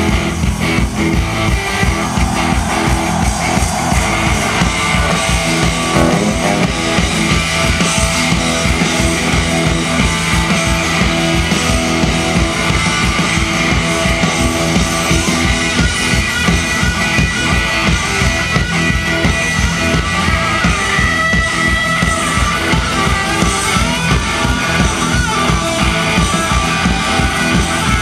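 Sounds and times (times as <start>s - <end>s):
distorted electric guitar: 0.0s - 28.0s
fast drum beat: 0.0s - 28.0s.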